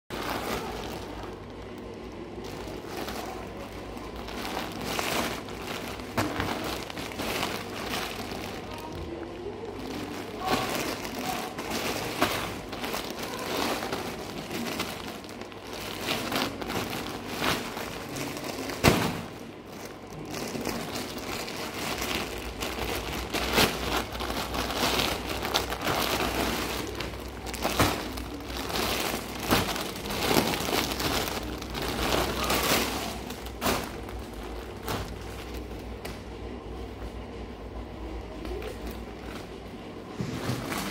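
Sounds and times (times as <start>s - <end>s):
plastic bag crinkling and tearing: 0.1s - 36.0s
low steady hum: 0.1s - 40.9s.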